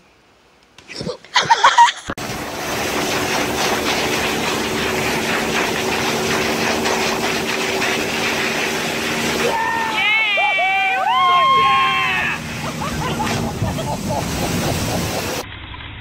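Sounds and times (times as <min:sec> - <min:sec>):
boat engine humming: 0:02.2 - 0:15.4
water spray hissing: 0:02.2 - 0:15.4.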